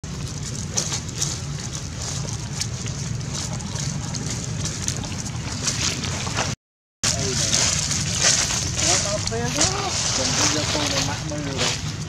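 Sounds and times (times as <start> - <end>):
steady low rumble: 0.0 - 12.0
footsteps on dry leaves: 0.1 - 12.0.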